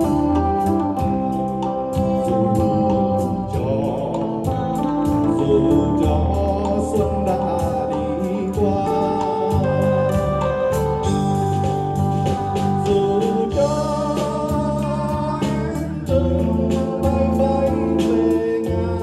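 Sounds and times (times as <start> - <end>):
man singing a ballad: 0.0 - 11.2, 12.4 - 19.0
drum kit beat: 0.0 - 19.0
held chords: 0.0 - 19.0.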